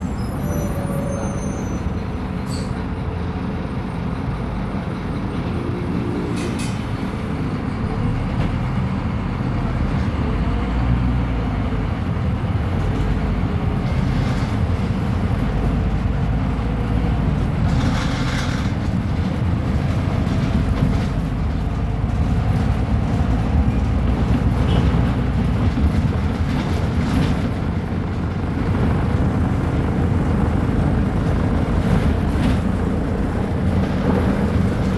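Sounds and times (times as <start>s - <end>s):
bus body rattles: 0.0s - 34.9s
bus diesel engine running: 0.0s - 34.9s.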